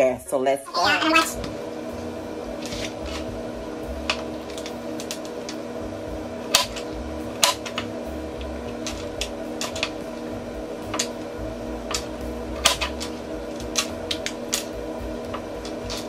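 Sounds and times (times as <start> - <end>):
appliance hum: 0.0 - 16.0.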